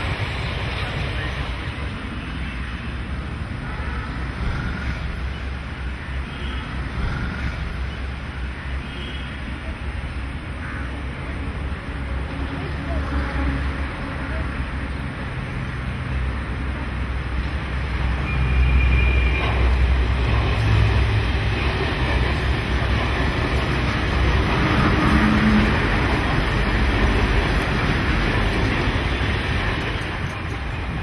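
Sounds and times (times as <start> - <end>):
train wheels rumbling on rails: 0.0 - 8.5, 11.0 - 31.0.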